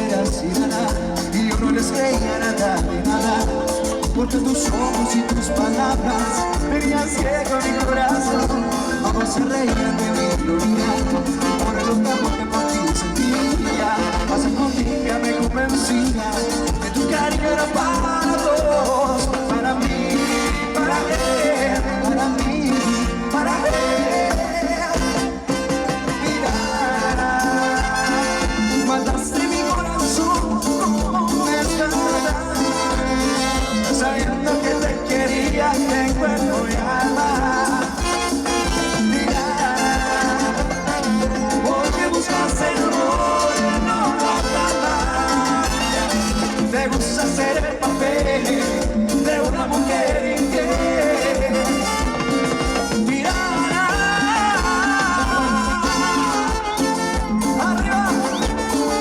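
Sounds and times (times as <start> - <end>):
latin dance band playing: 0.0 - 59.0
person singing: 0.0 - 59.0.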